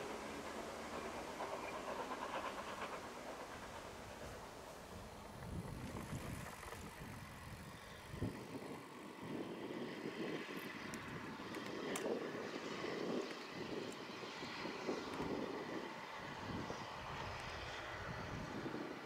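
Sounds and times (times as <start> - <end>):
steam locomotive working: 0.0 - 19.0.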